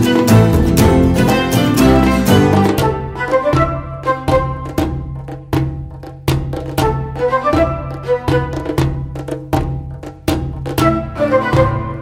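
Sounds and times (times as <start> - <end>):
melody over percussive strikes: 0.0 - 12.0.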